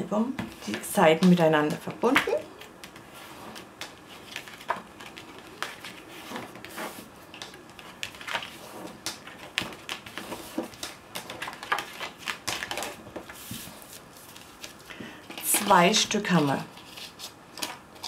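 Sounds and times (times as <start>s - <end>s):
paper pages rustling and tapping: 0.4s - 16.1s, 16.7s - 18.0s.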